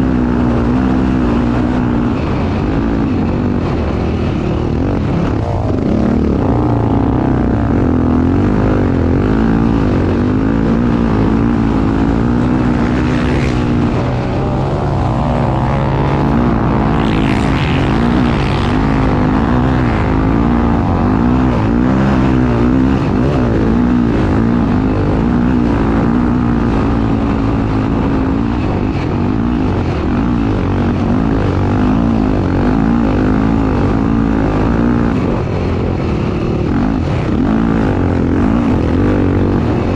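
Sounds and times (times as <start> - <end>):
motorcycle engine revving: 0.0 - 39.9
rushing noise: 0.0 - 39.9.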